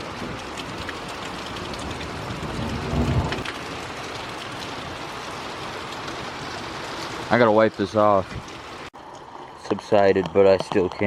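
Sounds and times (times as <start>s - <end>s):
heavy rain: 0.0s - 8.9s.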